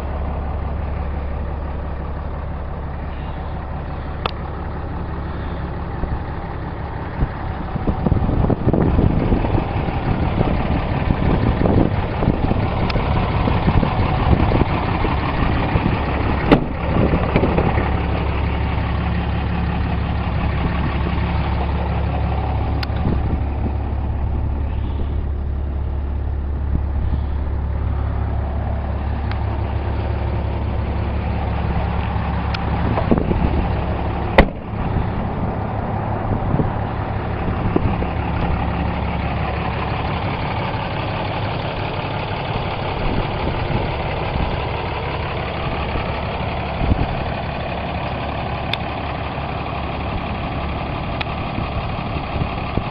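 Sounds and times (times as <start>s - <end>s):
diesel engine idling: 0.0s - 52.9s.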